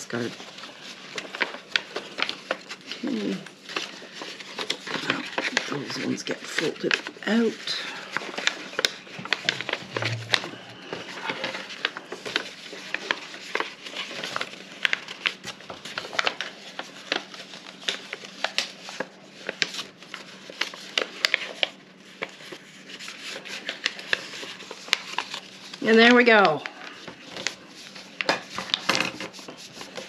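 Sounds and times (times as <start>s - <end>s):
paper crinkling and tapping: 0.0s - 30.0s.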